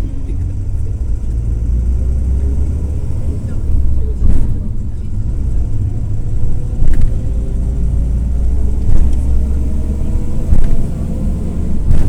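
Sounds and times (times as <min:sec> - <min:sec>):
diesel engine drone: 0:00.0 - 0:12.0
road rumble: 0:00.0 - 0:12.0.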